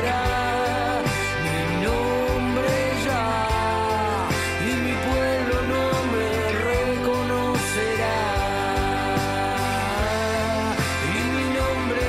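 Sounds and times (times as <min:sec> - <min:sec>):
instrumental song with bass and drums: 0:00.0 - 0:12.0.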